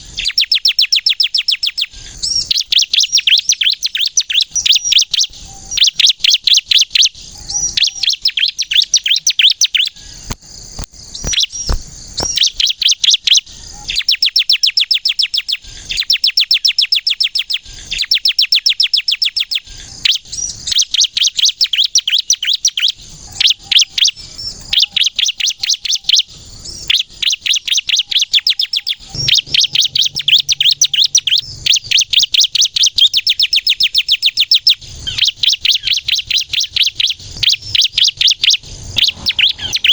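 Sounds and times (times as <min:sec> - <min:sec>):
bird singing high trills: 0:00.0 - 0:10.4, 0:11.1 - 0:39.9.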